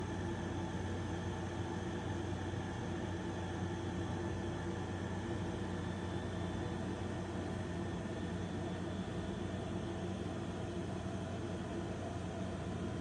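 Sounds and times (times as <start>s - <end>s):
steady hum with hiss: 0.0s - 13.0s.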